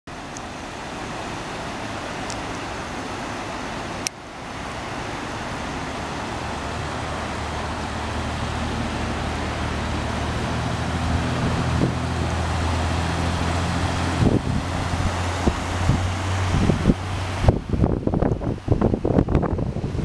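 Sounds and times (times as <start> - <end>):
floodwater rushing: 0.1 - 20.0.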